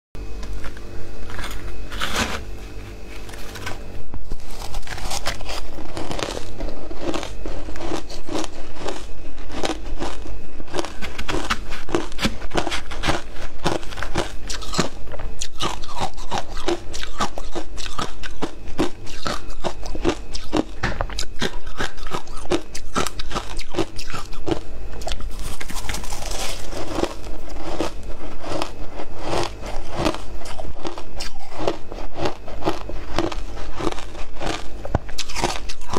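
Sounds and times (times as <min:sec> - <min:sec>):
crunching ice chewed: 0:00.4 - 0:35.9.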